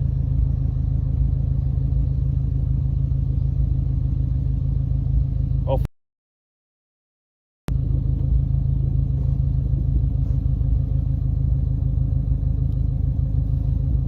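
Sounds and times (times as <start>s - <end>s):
constant hum: 0.0s - 5.9s, 7.7s - 14.0s
low rumble: 0.0s - 5.9s, 7.7s - 14.0s.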